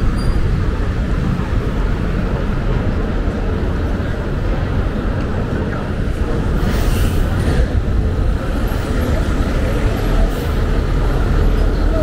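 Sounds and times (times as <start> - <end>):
rumble of passing vehicles: 0.0 - 12.0.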